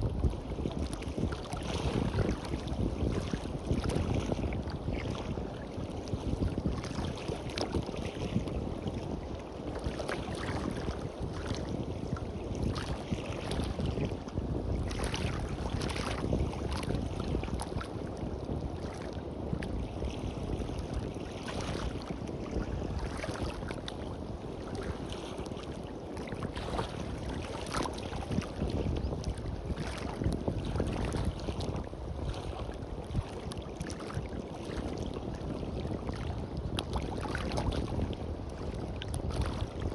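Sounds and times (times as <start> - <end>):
sea waves washing on beach: 0.0 - 39.9
wind rumble on microphone: 0.0 - 39.9.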